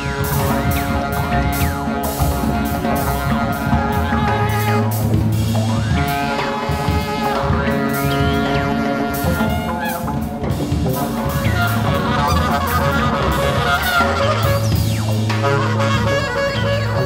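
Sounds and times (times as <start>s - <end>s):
saxophone pitch glides: 0.0s - 10.5s, 11.1s - 17.0s.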